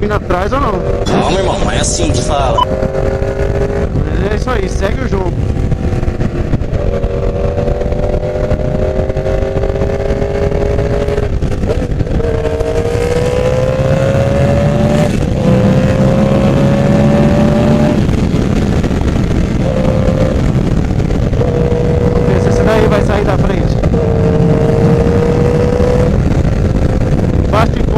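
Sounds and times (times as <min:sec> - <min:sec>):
wind rush: 0:00.0 - 0:27.9
motorcycle engine accelerating: 0:02.5 - 0:27.9.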